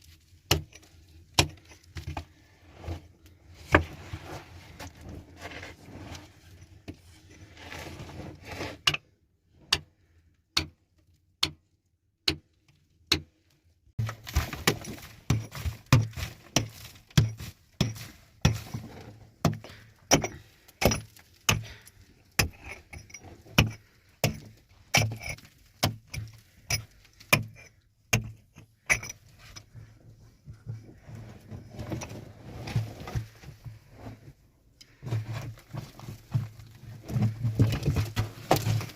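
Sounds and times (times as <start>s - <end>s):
clattering and scraping: 1.5s - 9.1s, 14.0s - 38.9s.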